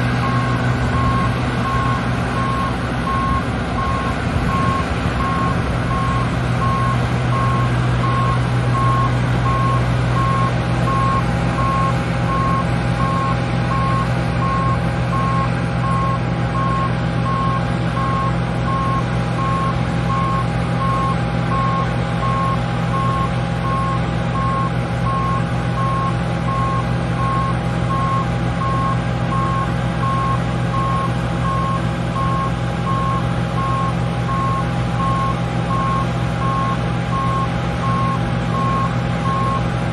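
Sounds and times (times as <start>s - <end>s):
machinery engine running: 0.0s - 39.9s
electronic warning beeper: 0.2s - 39.6s.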